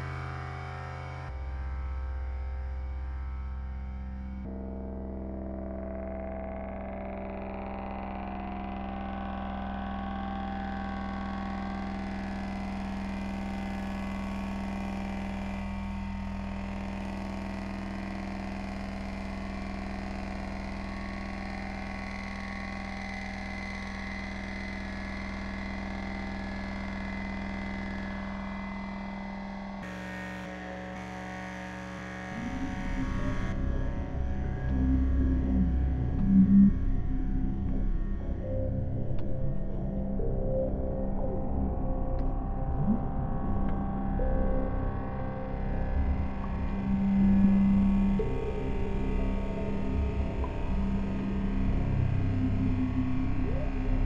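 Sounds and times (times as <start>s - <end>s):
low synthesizer drone: 0.0s - 54.0s.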